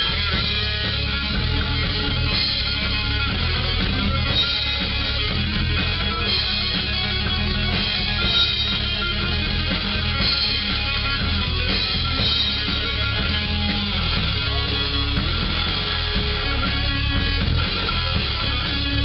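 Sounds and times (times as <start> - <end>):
guitar-led rock music: 0.0 - 19.0.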